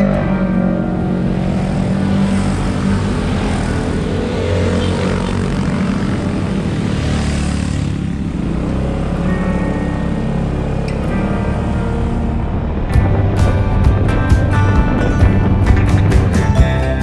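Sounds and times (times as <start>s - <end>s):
motor scooter engines running: 0.0s - 17.0s.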